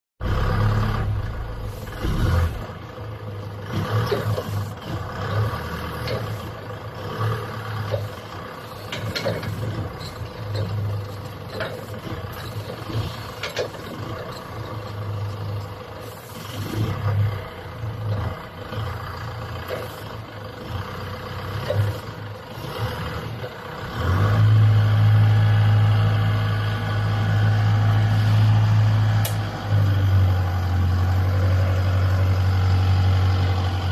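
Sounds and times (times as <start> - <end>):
forklift diesel engine running: 0.2 - 33.9.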